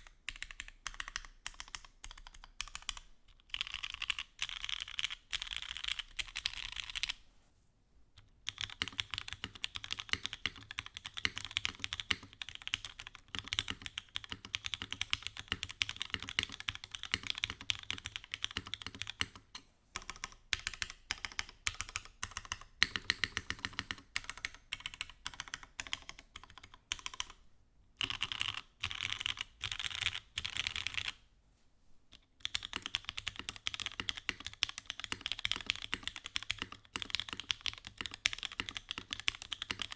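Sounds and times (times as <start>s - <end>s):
fast mechanical keyboard typing: 0.3s - 7.2s, 8.5s - 27.4s, 28.0s - 31.2s, 32.4s - 39.9s.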